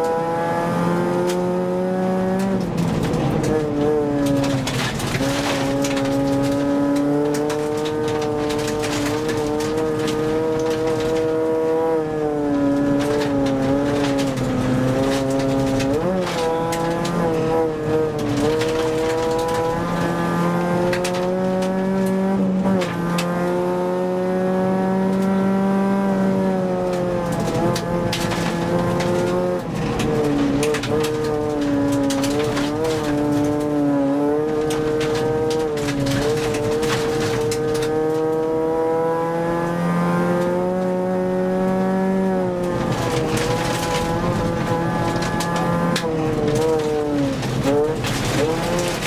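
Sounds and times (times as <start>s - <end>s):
gravel rattling against car: 0.0s - 49.0s
rally car engine revving: 0.0s - 49.0s.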